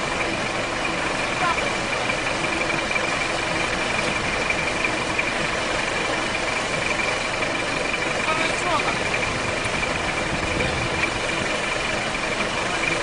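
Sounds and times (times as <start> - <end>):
car engine idling: 0.0 - 13.0
high-pitched whine: 0.0 - 13.0.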